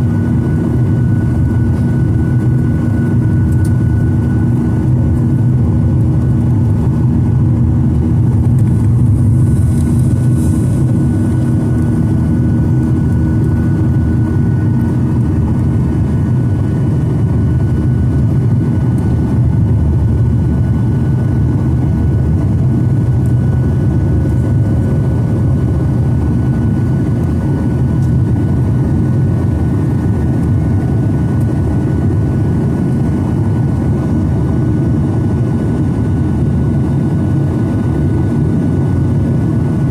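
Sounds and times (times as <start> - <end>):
low hum: 0.0 - 35.4
jet engine drone: 0.0 - 39.9.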